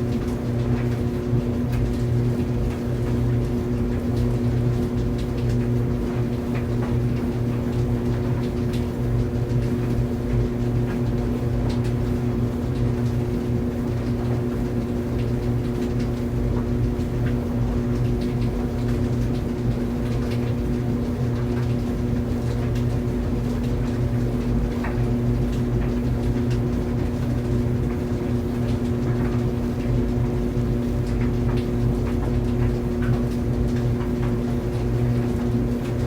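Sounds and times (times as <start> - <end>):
dryer drum rumbling: 0.0 - 36.0
dryer motor hum: 0.0 - 36.0.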